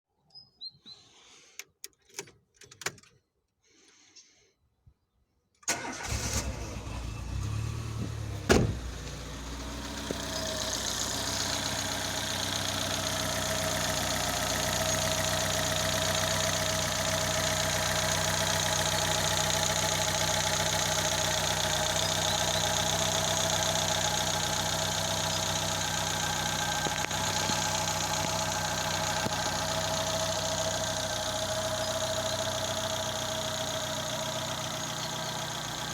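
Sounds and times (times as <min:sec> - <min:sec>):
car engine starting and idling: 0:05.6 - 0:35.9.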